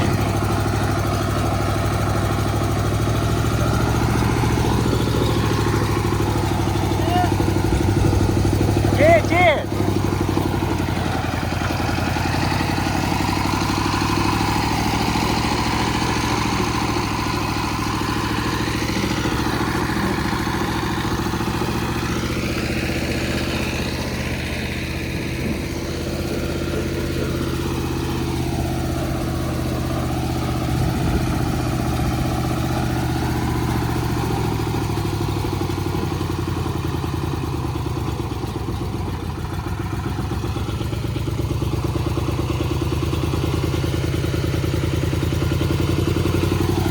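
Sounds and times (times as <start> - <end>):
cultivator diesel engine running: 0.0 - 46.9.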